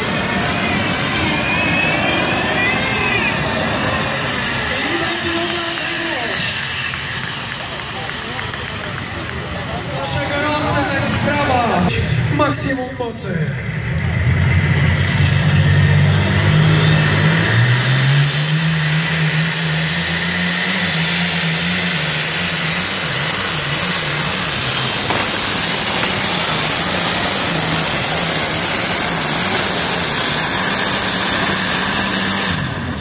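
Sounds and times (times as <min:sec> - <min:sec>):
high whine: 0:00.0 - 0:33.0
tractor diesel engine running: 0:00.0 - 0:33.0.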